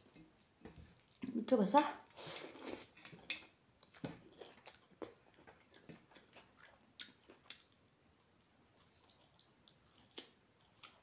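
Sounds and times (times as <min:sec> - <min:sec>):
person chewing rice: 0:00.0 - 0:01.2, 0:02.3 - 0:11.0.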